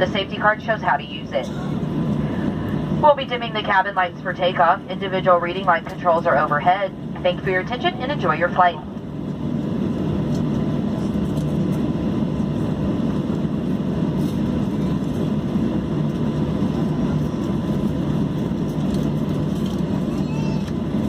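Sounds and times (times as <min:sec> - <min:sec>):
airplane cabin rumble: 0:00.0 - 0:21.0
faint steady whine: 0:00.0 - 0:21.0.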